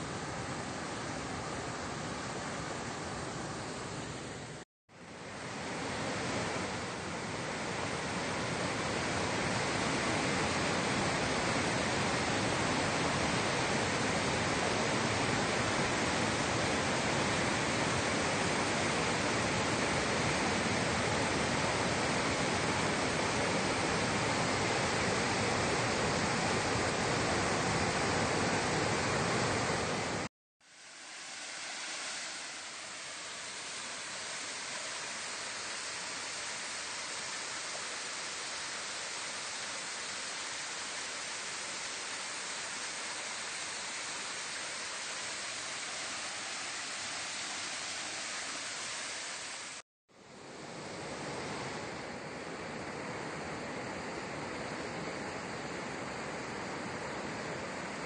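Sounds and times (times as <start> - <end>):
waterfall and river rapids rushing: 0.0 - 58.0.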